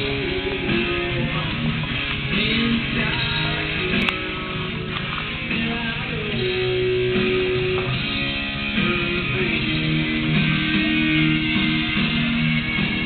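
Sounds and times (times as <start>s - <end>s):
guitar music: 0.0s - 13.0s.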